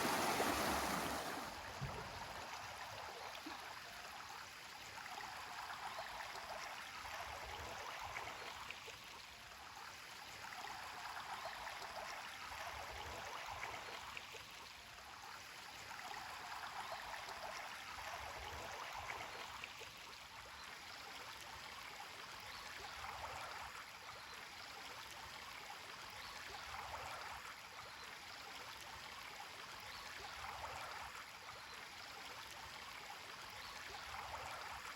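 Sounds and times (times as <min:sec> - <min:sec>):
running water rushing and gurgling: 0:00.0 - 0:34.9.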